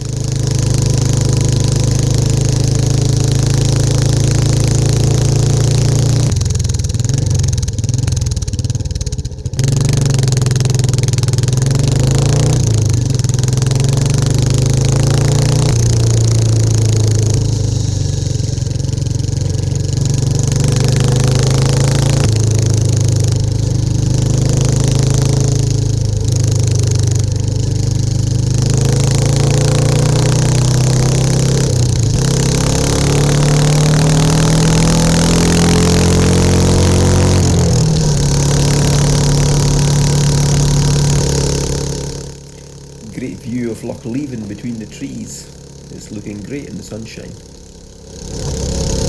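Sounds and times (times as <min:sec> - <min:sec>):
motorcycle engine exhaust note: 0:00.0 - 0:49.0.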